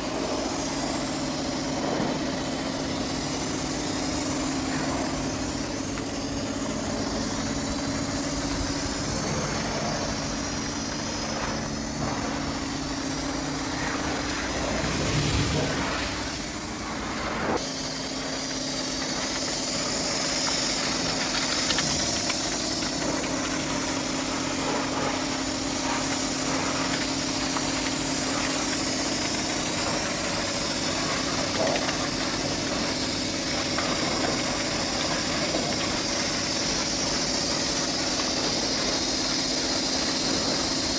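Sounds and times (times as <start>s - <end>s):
hiss: 0.0s - 40.9s
steady engine hum: 0.0s - 40.9s.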